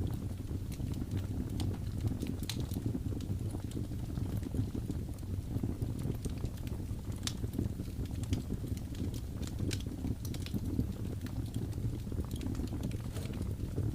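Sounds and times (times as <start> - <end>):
fire low rumble: 0.0 - 13.9
wood fire popping and snapping: 0.0 - 13.9.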